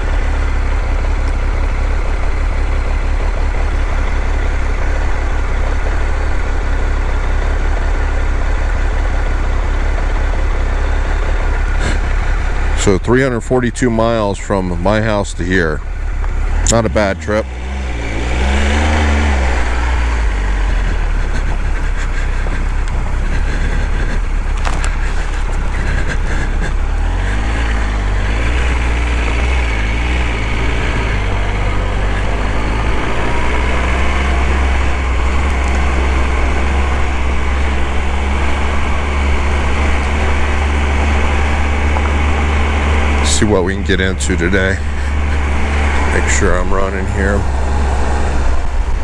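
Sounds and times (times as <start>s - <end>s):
motorcycle engine running: 0.0s - 49.0s
wind and road noise: 0.0s - 49.0s.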